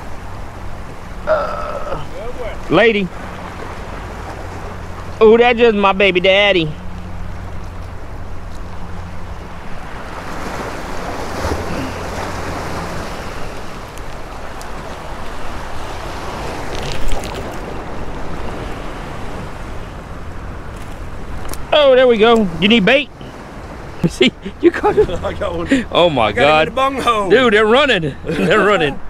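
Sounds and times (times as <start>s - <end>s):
waves splashing against boulders: 0.0s - 29.0s.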